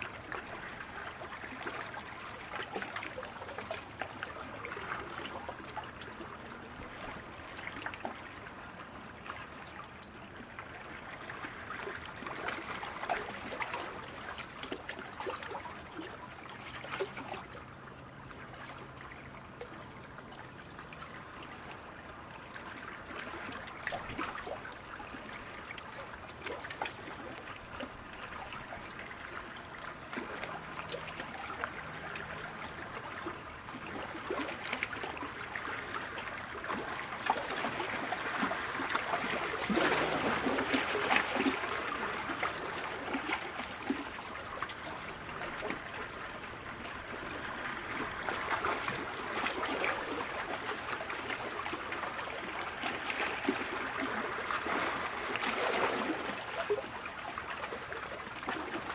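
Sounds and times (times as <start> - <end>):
water lapping and trickling: 0.0 - 58.9
small splashes and ticks: 9.2 - 58.9.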